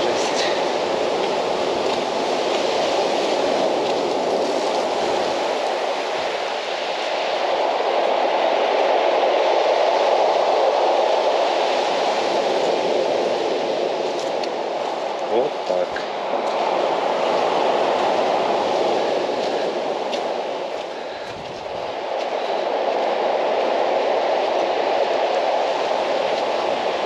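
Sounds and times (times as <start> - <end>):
rough sea surf roaring: 0.0 - 27.0
wind: 0.0 - 27.0.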